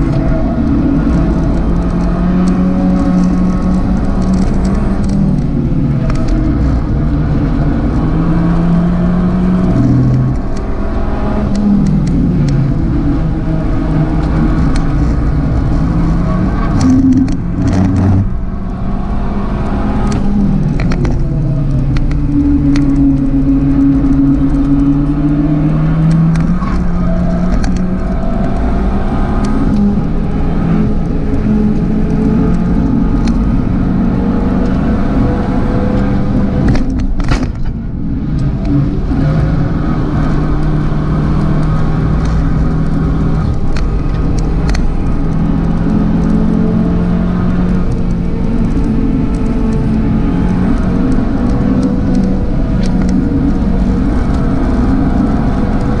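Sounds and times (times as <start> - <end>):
car engine under load: 0.0 - 56.0.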